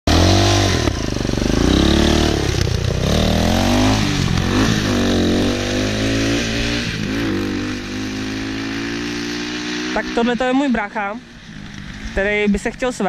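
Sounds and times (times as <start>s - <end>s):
dirt bike engine revving: 0.1s - 13.0s.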